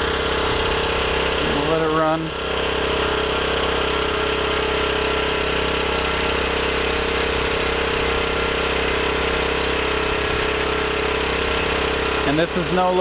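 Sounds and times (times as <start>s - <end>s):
generator engine running: 0.0s - 13.0s.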